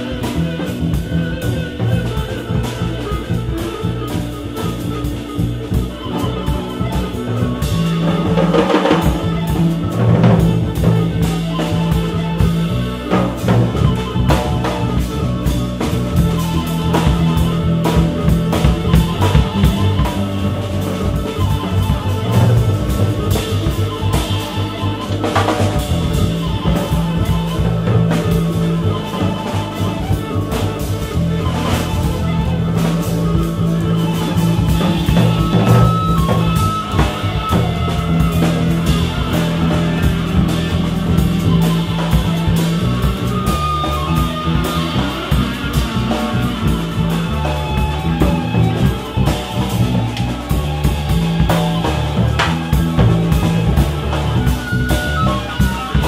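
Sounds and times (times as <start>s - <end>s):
double bass: 0.0s - 56.0s
drum kit: 0.0s - 56.0s
electric guitar: 0.0s - 56.0s.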